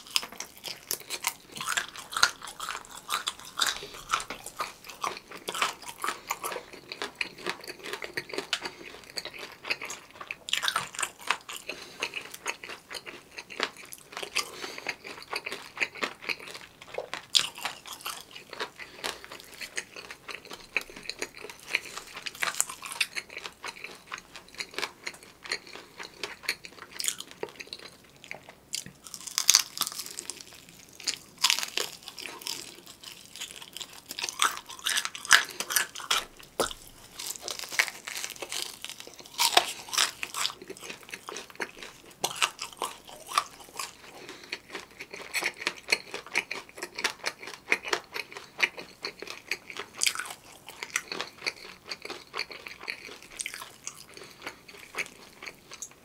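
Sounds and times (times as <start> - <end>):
crunching crispy fried food: 0.0 - 56.0.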